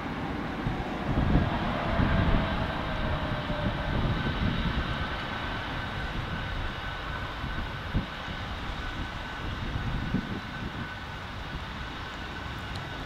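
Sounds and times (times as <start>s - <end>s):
jet engine rush with whine: 0.0s - 13.0s
wind buffeting microphone: 0.0s - 13.0s.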